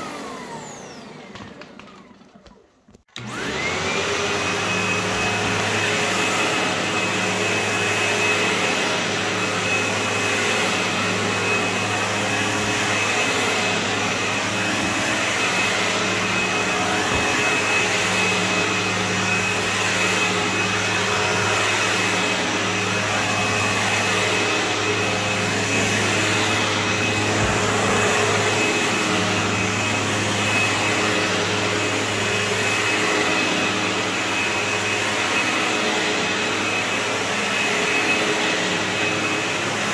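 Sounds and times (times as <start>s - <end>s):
upright vacuum cleaner on carpet: 0.0s - 39.9s.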